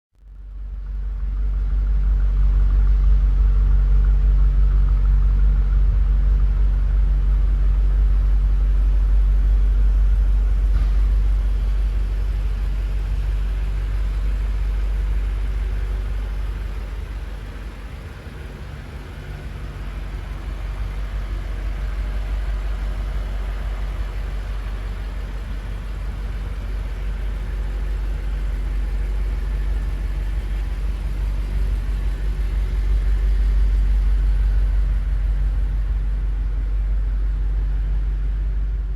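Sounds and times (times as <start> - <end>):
car engine idling: 0.2 - 38.9.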